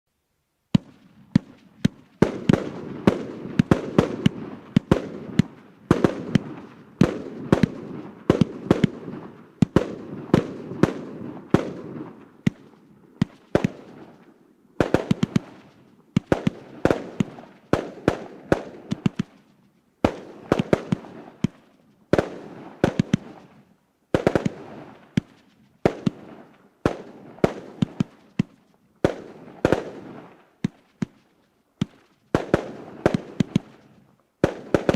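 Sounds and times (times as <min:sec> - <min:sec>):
fireworks bangs: 0:00.7 - 0:34.9.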